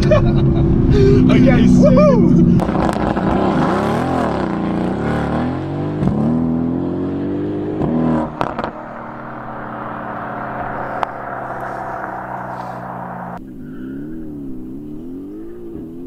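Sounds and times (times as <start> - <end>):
car engine accelerating hard: 0.0 - 16.0
exhaust crackles: 0.8 - 15.9.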